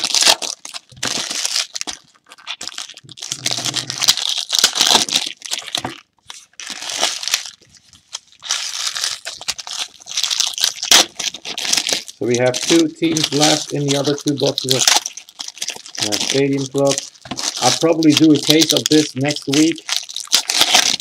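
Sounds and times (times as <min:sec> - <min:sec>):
card pack wrappers crinkling: 0:00.0 - 0:21.0.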